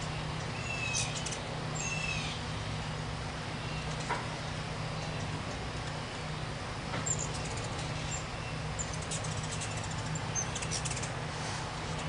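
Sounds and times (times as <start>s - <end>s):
hummingbirds chipping: 0.0s - 12.0s.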